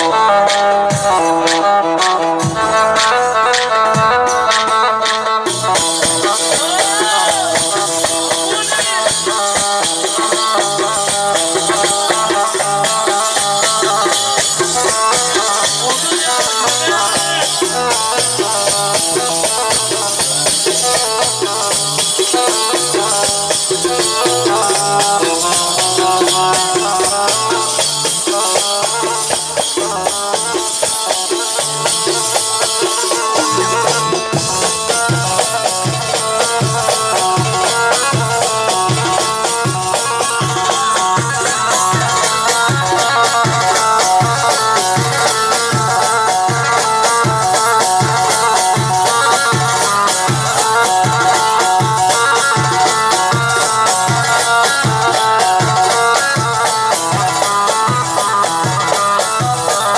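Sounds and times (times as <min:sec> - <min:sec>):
instrumental melody: 0:00.0 - 0:59.9
steady percussion rhythm: 0:00.0 - 0:59.9.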